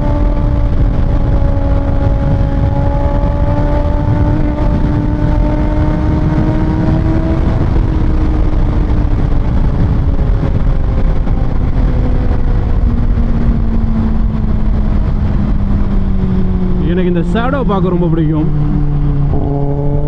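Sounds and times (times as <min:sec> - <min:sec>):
motorcycle engine running: 0:00.0 - 0:20.0
wind rumble on microphone: 0:00.0 - 0:20.0.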